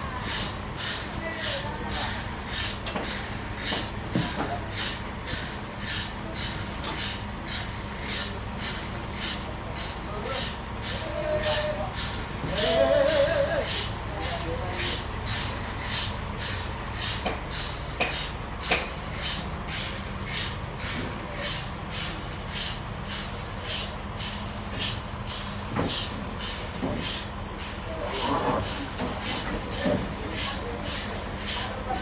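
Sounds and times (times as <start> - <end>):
sawmill machine hum: 5.1 - 32.0.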